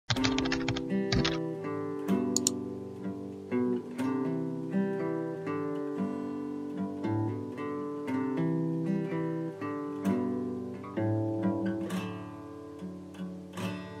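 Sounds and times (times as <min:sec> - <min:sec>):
acoustic guitar strumming chords: 0:00.2 - 0:14.0.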